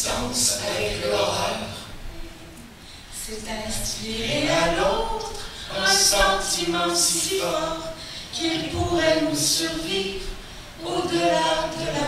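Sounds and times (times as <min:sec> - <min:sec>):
group singing with held notes: 0:00.0 - 0:12.0.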